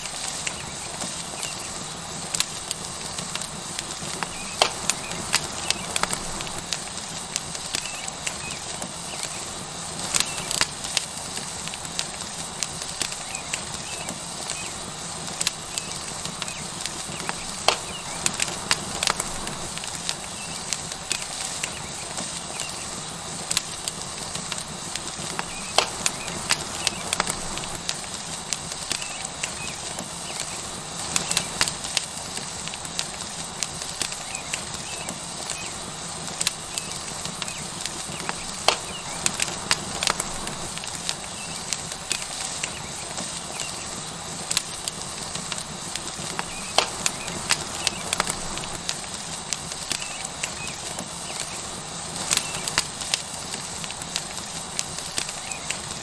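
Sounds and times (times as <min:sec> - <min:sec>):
steak sizzling on hot rock: 0:00.0 - 0:56.0
wood fire crackling: 0:00.0 - 0:56.0.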